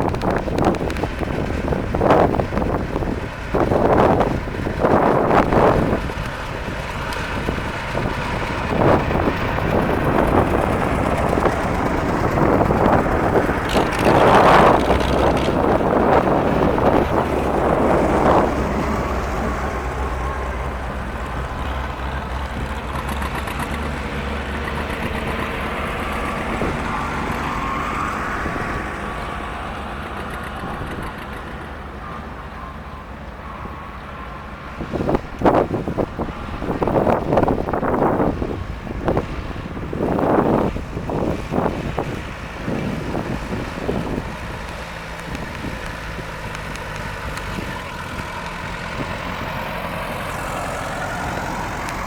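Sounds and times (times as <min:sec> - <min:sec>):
tractor engines running: 0:00.0 - 0:52.0
wind buffeting microphone: 0:00.0 - 0:52.0.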